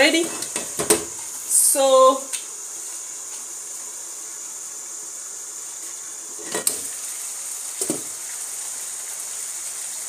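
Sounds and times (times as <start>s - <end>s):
pots hissing on stove: 0.0s - 10.0s.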